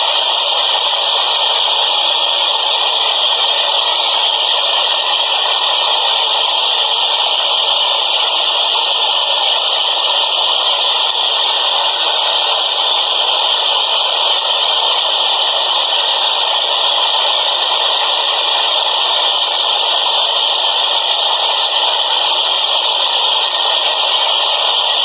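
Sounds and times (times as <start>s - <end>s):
subway train rushing and rattling: 0.0s - 25.0s.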